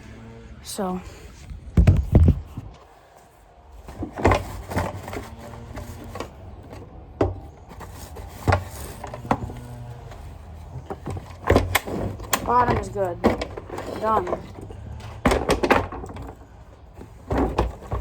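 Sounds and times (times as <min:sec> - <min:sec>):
vacuum parts knocking: 0:01.7 - 0:02.8, 0:03.8 - 0:18.0.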